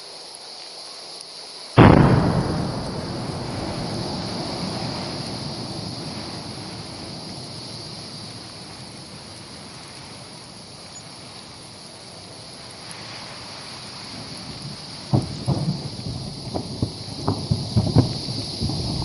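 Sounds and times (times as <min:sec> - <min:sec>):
low eruption rumble: 0:01.8 - 0:19.0
wind buffeting microphone: 0:01.8 - 0:19.0.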